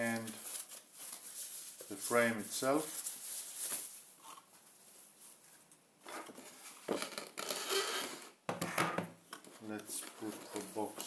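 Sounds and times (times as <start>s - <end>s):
plastic wrap rustling and crinkling: 0.0s - 7.6s, 9.4s - 11.0s.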